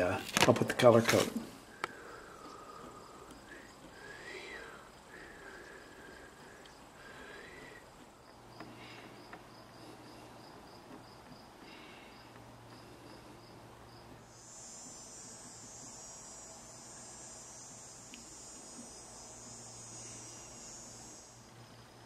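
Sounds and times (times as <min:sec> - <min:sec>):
insect chirping: 0:00.0 - 0:22.0
steady low hum: 0:00.0 - 0:22.0.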